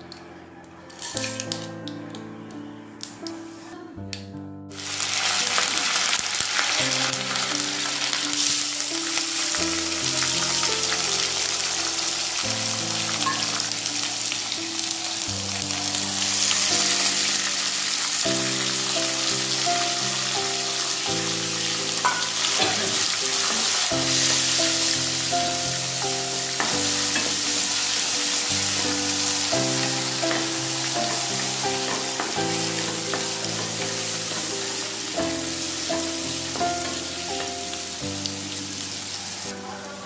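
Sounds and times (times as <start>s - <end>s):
background music sustained chords: 0.0s - 40.0s
vegetables sizzling in oil: 4.7s - 39.6s.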